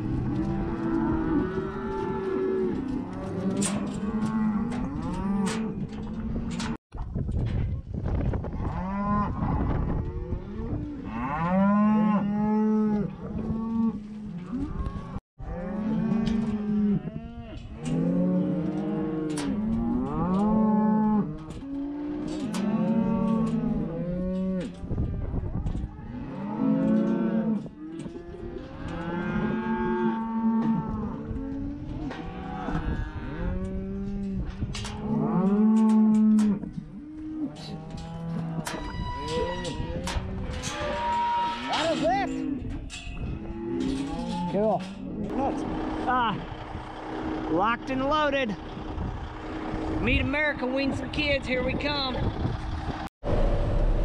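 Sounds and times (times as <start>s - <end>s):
cattle mooing and bawling: 0.0s - 6.8s, 8.6s - 25.2s, 25.9s - 51.4s.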